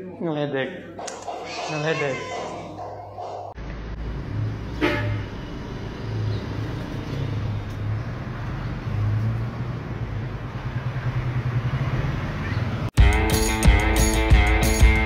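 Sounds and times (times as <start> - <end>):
road traffic noise: 0.9 - 13.0.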